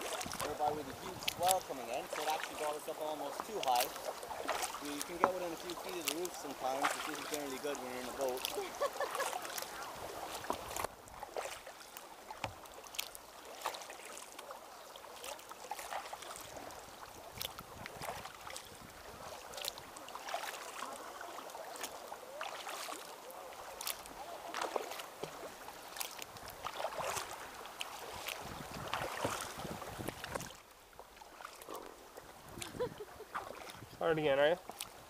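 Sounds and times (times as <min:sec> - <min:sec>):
paddles splashing in water: 0:00.0 - 0:35.0
water lapping along hull: 0:00.0 - 0:35.0.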